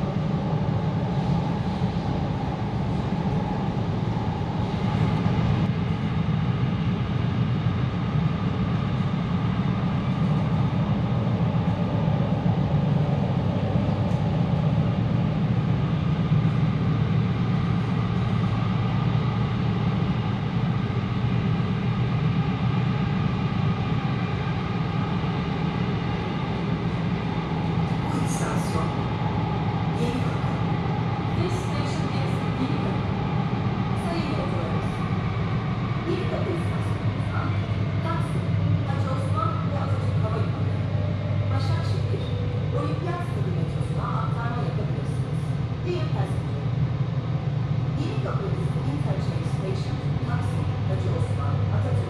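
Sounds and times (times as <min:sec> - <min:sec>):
faint steady hums: 0:00.0 - 0:52.0
train rumbling in motion: 0:00.0 - 0:52.0.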